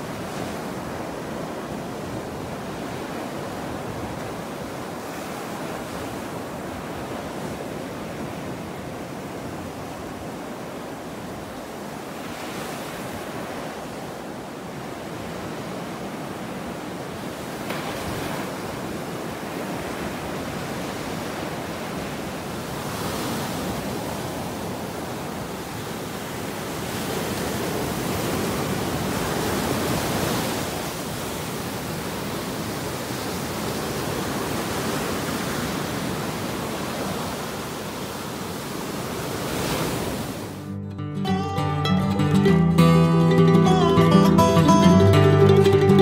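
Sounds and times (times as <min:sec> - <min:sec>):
ocean surf breaking on sand: 0:00.0 - 0:40.6.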